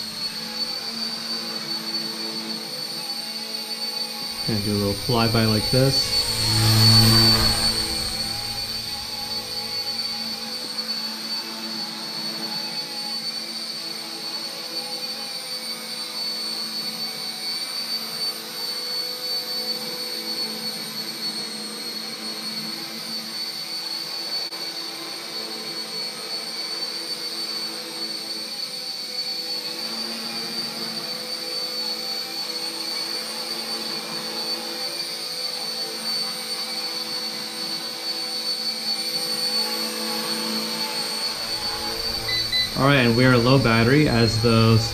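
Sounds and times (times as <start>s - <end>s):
rc helicopter whine: 0.0s - 44.9s.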